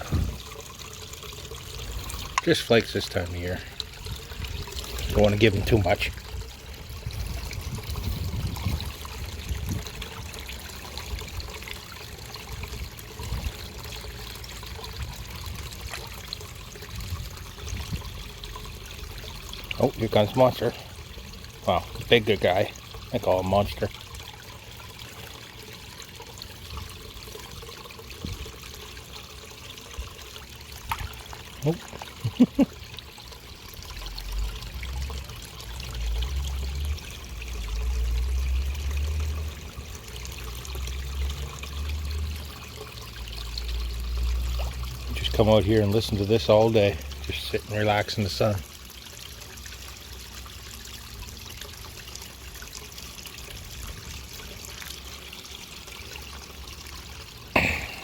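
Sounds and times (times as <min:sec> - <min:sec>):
waterfall splashing and trickling: 0:00.0 - 0:58.0.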